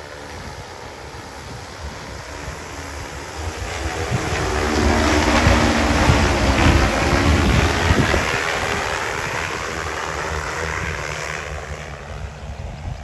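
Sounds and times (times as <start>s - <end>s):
drone rotors rushing: 0.0s - 12.9s.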